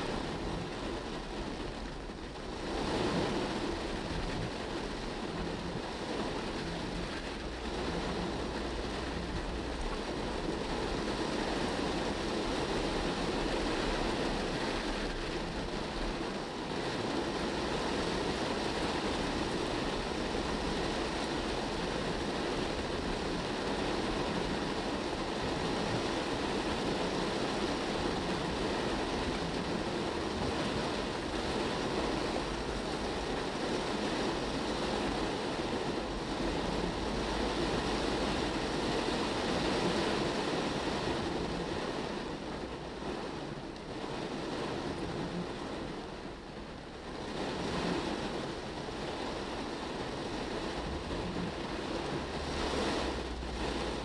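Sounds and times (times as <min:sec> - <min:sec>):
heavy rain on car windscreen: 0:00.0 - 0:54.0
tyre noise on wet road: 0:00.0 - 0:54.0.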